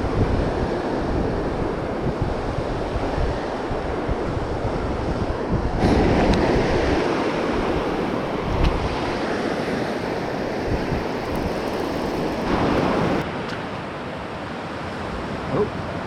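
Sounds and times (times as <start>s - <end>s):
wind buffeting microphone: 0.0s - 13.2s
surf washing onto beach: 0.0s - 13.9s.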